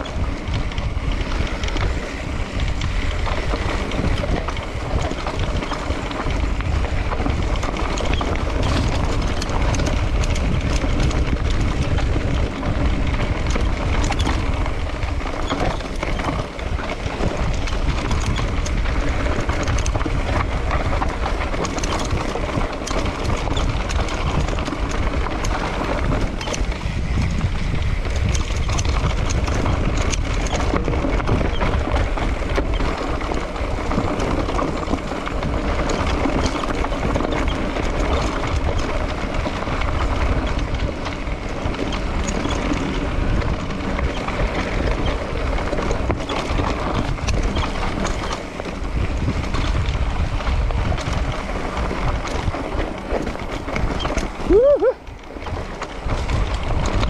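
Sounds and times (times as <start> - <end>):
bike rattling over bumps: 0.0 - 57.0
tyres rumbling on dirt: 0.0 - 57.0
wind buffeting microphone: 0.0 - 57.0.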